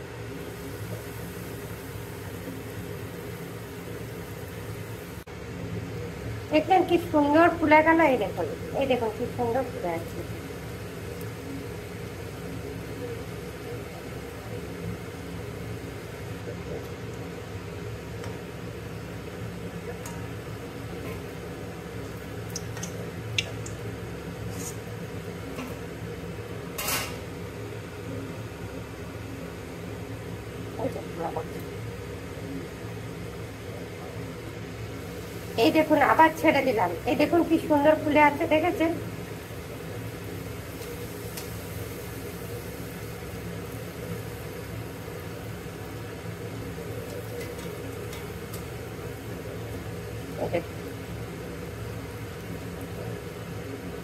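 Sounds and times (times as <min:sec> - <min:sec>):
sizzling and bubbling oil: 0:00.0 - 0:54.0
steady low hum: 0:00.0 - 0:54.0.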